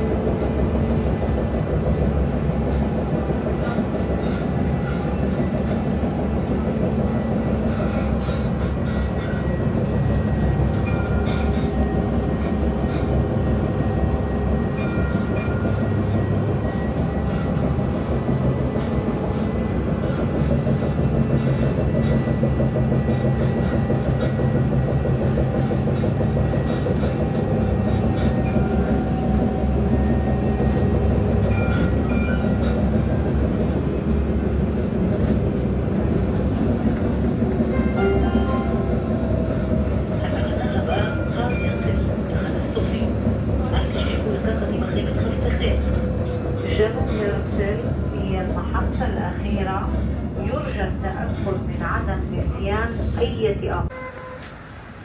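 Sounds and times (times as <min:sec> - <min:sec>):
tram wheels rumbling on track: 0:00.0 - 0:55.0.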